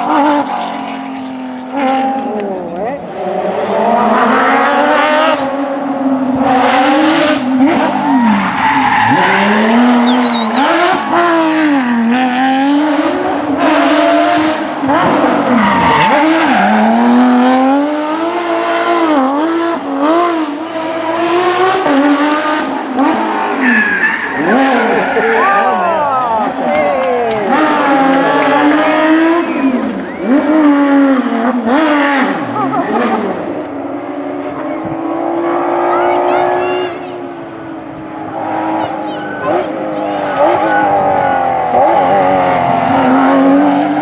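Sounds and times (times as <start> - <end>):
rally car engines at full throttle: 0.0 - 44.0.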